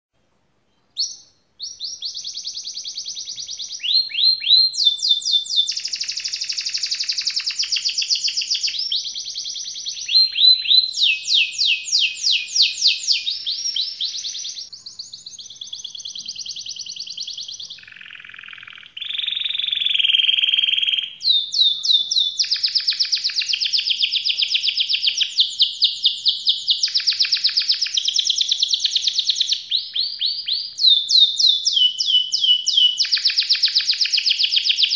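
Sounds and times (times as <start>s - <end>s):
canary singing trills: 0.7s - 34.9s.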